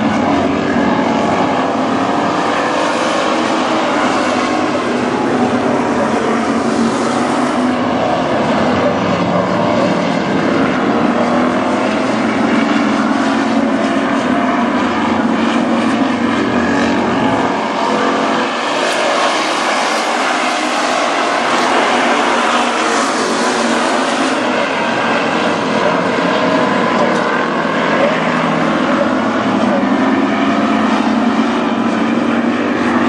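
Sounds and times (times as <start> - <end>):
race car engines running hard: 0.0 - 33.0.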